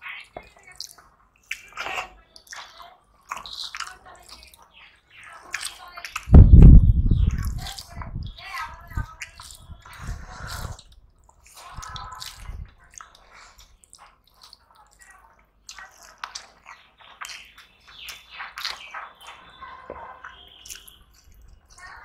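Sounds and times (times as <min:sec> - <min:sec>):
fingers squishing food on plates: 0:00.0 - 0:22.0
wet chewing and lip-smacking: 0:00.1 - 0:22.0.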